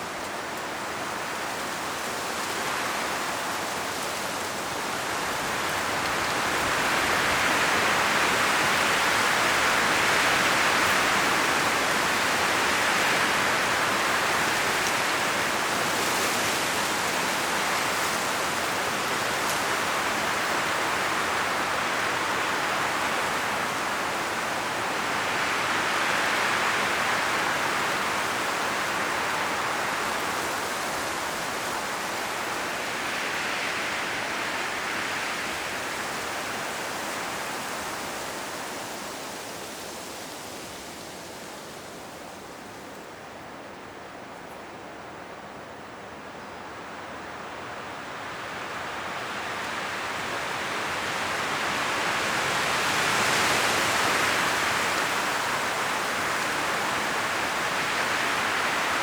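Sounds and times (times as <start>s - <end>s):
wind rustling tree leaves: 0.0s - 59.0s.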